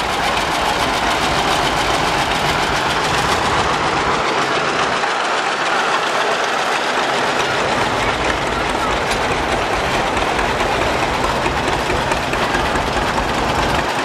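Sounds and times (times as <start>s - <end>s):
tractor engines driving past: 0.0s - 14.0s.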